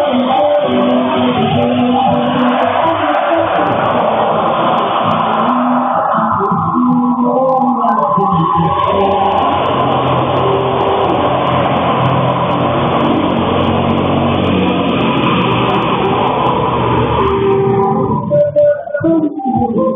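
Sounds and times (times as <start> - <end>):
vehicle engine running: 0.0 - 7.2, 8.2 - 18.4.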